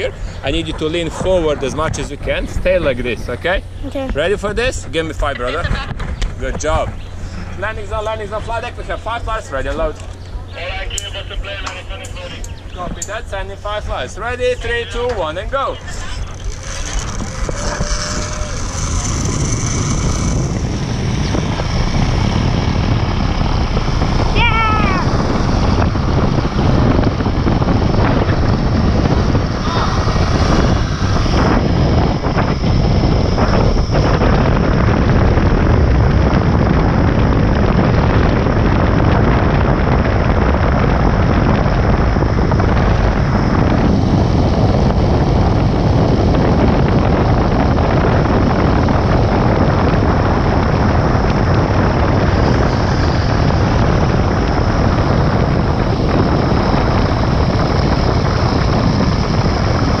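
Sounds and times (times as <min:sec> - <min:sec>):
wind buffeting microphone: 0:00.0 - 1:00.0
zipline trolley whirring on cable: 0:00.0 - 1:00.0.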